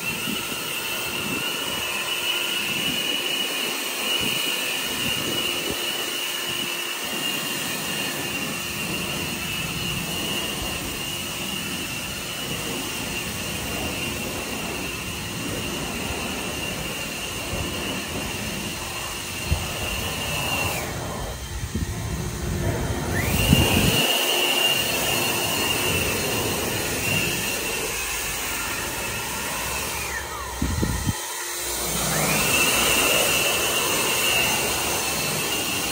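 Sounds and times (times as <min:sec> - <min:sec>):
leaf blower running: 0:00.0 - 0:35.9.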